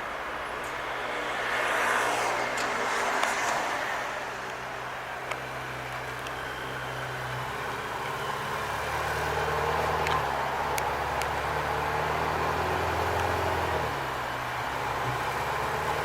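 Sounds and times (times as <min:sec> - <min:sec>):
car engine running: 0:02.3 - 0:16.0.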